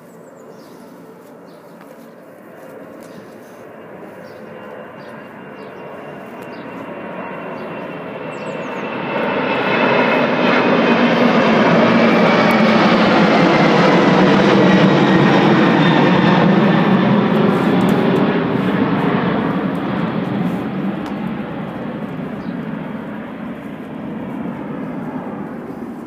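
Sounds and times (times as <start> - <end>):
aircraft engine roar: 0.0 - 26.0.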